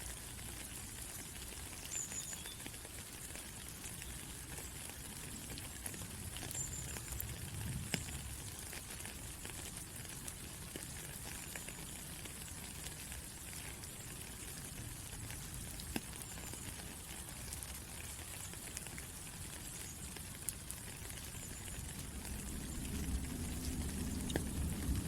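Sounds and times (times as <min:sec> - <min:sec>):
raindrop ticks: 0:00.0 - 0:25.0
steady rain falling: 0:00.0 - 0:25.0.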